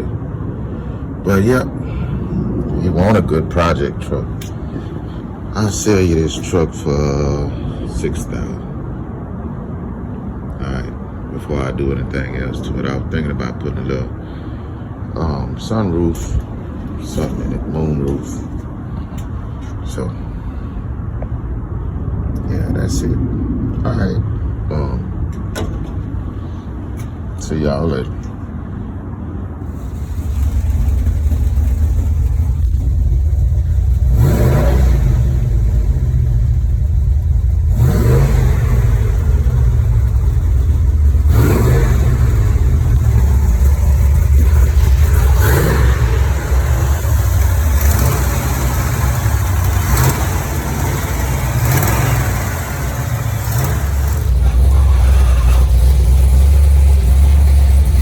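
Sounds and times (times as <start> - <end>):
vehicle engine rumbling and revving: 0.0 - 58.0.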